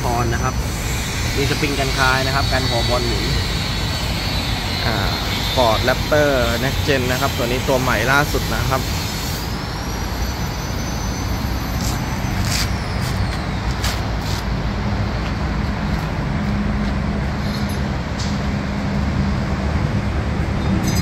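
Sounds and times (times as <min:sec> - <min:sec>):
motor vehicles rumbling: 0:00.0 - 0:21.0.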